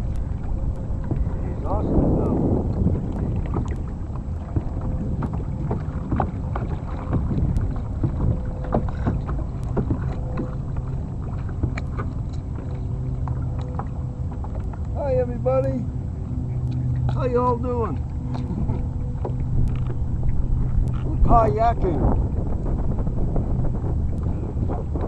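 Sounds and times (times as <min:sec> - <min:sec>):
water splashing and lapping: 0:00.0 - 0:25.0
wind rumbling on microphone: 0:00.0 - 0:25.0.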